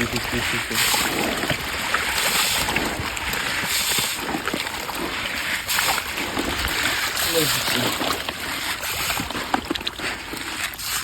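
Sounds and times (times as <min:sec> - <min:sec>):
water splashing in pond: 0:00.0 - 0:11.0.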